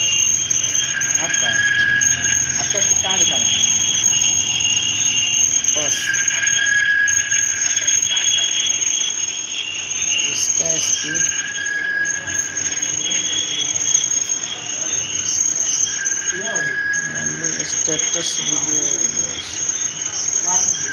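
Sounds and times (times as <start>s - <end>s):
faint voices: 0.0s - 20.9s
insects trilling: 0.0s - 20.9s.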